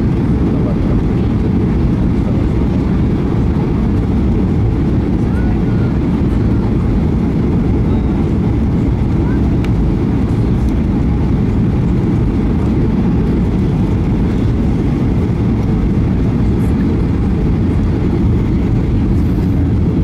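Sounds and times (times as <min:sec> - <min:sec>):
air rushing over wing: 0:00.0 - 0:20.0
jet engines rumbling: 0:00.0 - 0:20.0.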